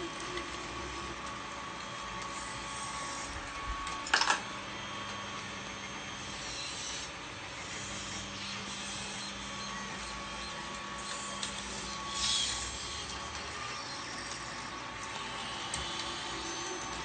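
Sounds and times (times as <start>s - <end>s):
electric motors humming: 0.0s - 17.0s.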